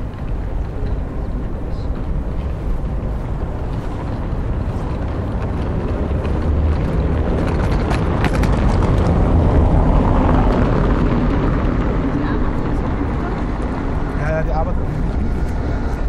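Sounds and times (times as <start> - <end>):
city traffic rumble: 0.0 - 16.0
vehicle approaching: 0.0 - 16.0.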